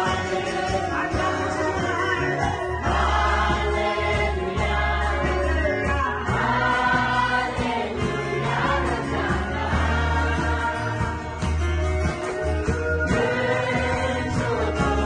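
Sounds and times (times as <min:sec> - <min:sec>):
bass and beat accompaniment: 0:00.0 - 0:15.0
congregation singing gospel song: 0:00.0 - 0:15.0.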